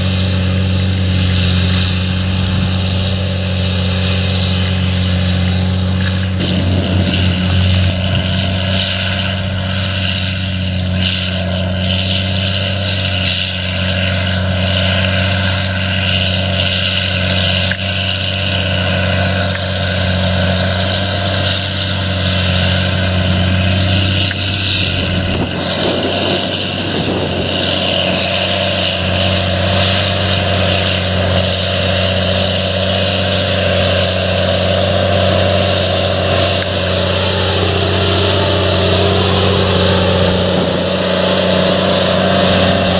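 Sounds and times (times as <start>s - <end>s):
steady engine drone: 0.0s - 42.9s.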